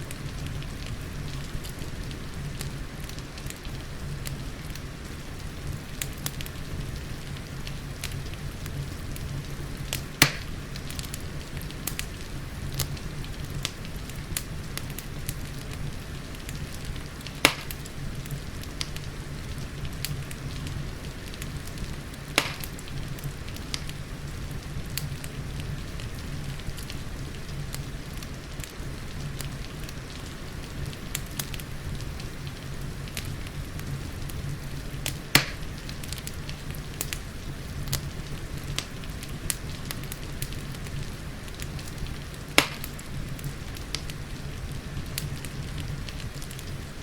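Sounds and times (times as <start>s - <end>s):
soft rain: 0.0s - 47.0s
wood fire crackling: 0.0s - 47.0s
sharp fire pops: 6.0s - 24.0s, 24.6s - 46.9s.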